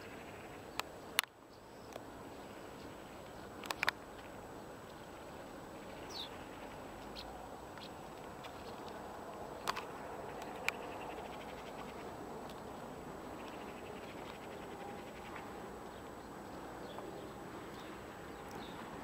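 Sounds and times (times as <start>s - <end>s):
faint bird chirps: 0.0s - 8.8s, 9.5s - 18.9s.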